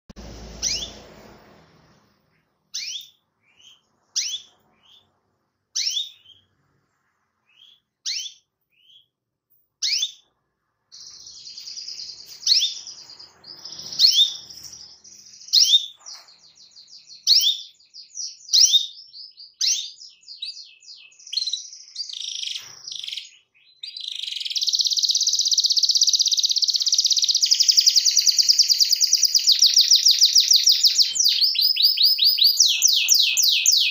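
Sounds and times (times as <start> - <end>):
canary singing trills: 0.2 - 1.4, 2.7 - 6.7, 7.4 - 9.2, 9.8 - 33.9.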